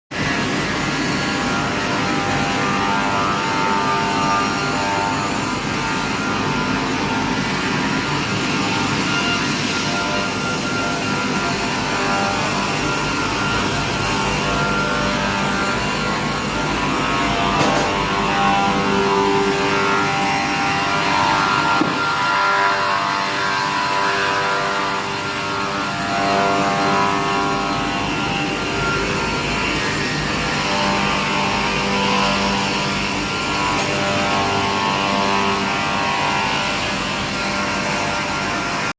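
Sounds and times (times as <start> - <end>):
woodworking machine whining: 0.2 - 38.9.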